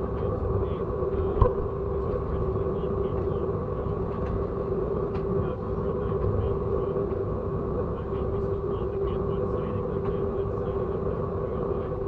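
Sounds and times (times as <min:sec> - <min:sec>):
droning hum: 0:00.0 - 0:12.0
train rumble: 0:00.0 - 0:12.0.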